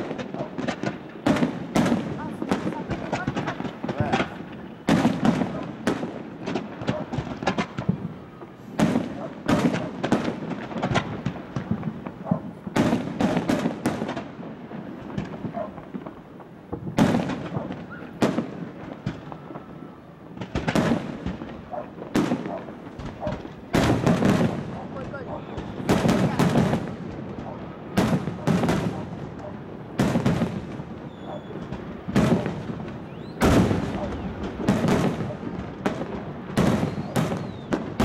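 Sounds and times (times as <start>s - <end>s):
small firework pops: 0.0s - 14.3s, 15.1s - 38.0s
fireworks bangs: 0.0s - 38.0s.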